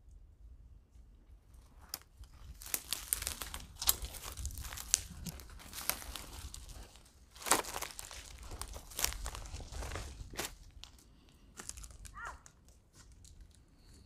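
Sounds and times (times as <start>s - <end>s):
footsteps crunching dry leaves: 1.6s - 13.5s.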